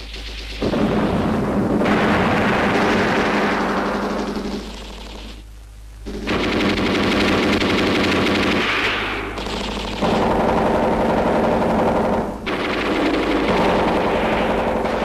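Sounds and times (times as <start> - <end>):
machine-gun fire: 0.0 - 5.4, 6.0 - 15.0.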